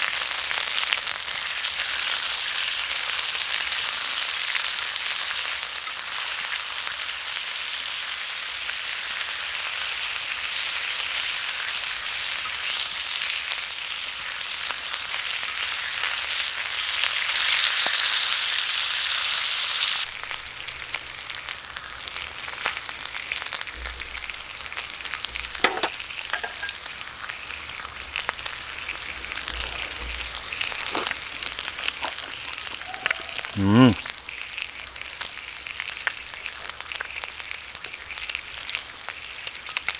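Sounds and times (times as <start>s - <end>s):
meat sizzling on a griddle: 0.0s - 31.4s, 34.7s - 39.9s.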